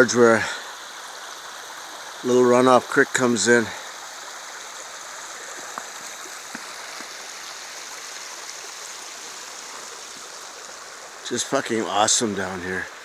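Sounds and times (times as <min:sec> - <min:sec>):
creek trickling over stones: 0:00.0 - 0:13.0.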